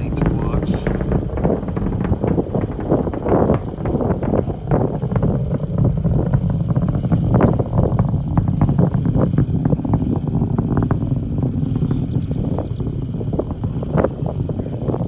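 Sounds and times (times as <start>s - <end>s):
distant rocket engine rumble: 0.0s - 15.0s.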